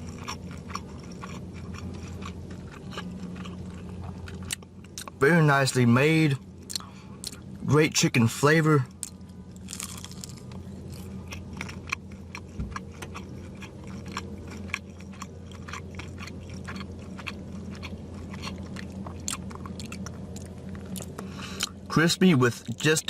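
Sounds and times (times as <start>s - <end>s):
person chewing crispy food: 0.0s - 5.2s, 6.4s - 7.6s, 8.9s - 21.8s.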